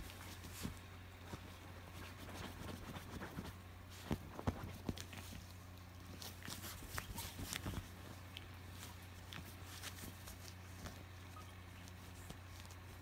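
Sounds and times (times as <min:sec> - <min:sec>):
dog scratching at fabric: 0:00.0 - 0:13.0.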